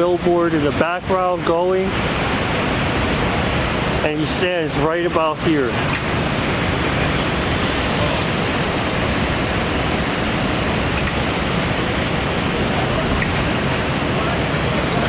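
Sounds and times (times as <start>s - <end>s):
water fountain splashing: 0.0s - 15.0s.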